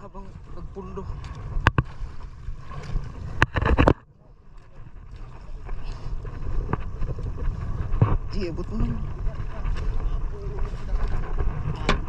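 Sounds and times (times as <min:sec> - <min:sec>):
water and wind against boat hull: 0:00.0 - 0:12.0.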